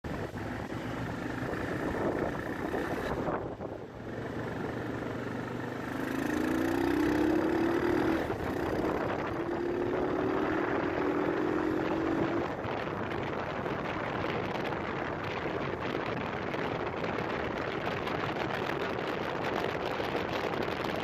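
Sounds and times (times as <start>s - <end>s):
wind and road noise: 0.0s - 21.0s
motorcycle engine revving: 0.1s - 21.0s.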